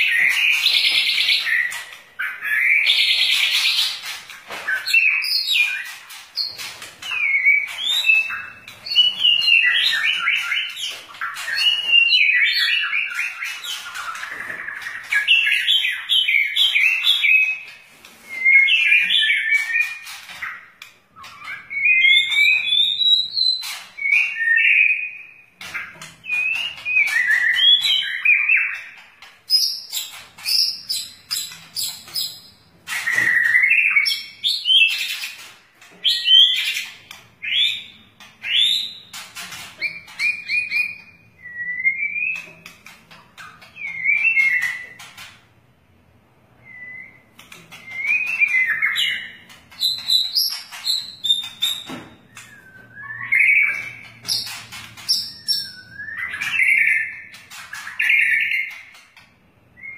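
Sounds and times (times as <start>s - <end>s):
bird singing: 0.0s - 45.3s, 46.6s - 59.0s.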